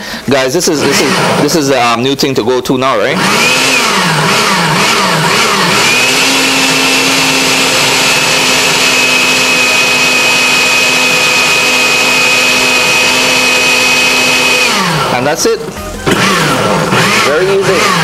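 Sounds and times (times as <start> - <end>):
blender motor: 0.8 - 1.6, 3.1 - 15.4, 16.0 - 18.0.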